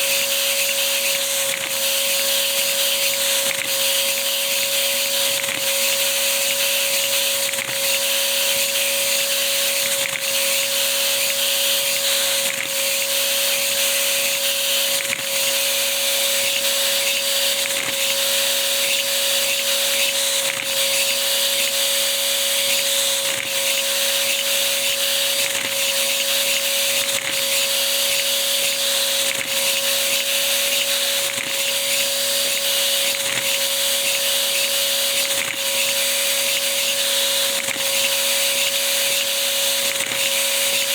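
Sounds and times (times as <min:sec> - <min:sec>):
toy engine running: 0:00.0 - 0:40.9
vacuum cleaner running: 0:00.0 - 0:40.9.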